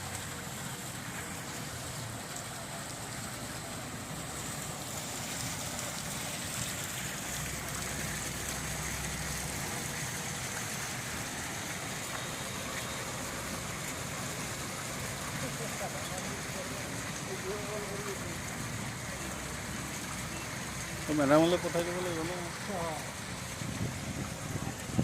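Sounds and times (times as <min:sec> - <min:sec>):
water fountain splashing: 0:00.0 - 0:25.0.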